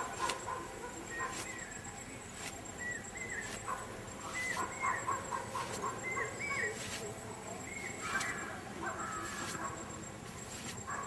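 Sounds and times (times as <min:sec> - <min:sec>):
animal chirps and whistled calls: 0:00.0 - 0:11.0.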